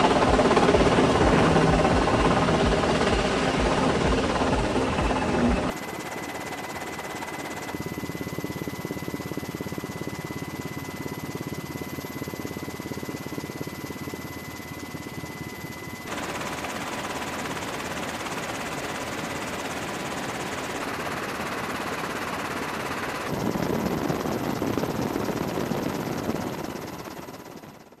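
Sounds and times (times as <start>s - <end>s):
helicopter in flight: 0.0s - 28.0s.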